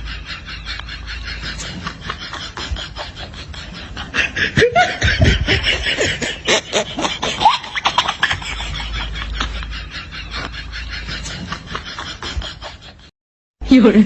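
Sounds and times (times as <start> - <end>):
person laughing: 0.0 - 13.1.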